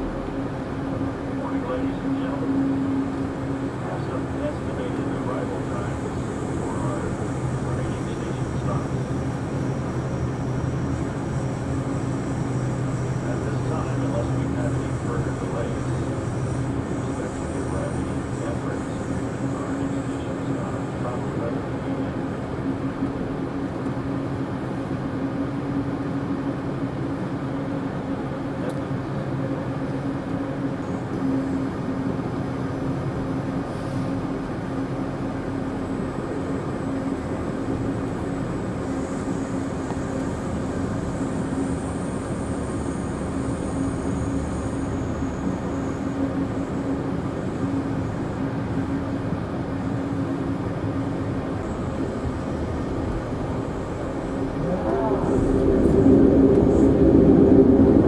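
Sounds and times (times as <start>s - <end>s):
constant low hum: 0.0s - 58.0s.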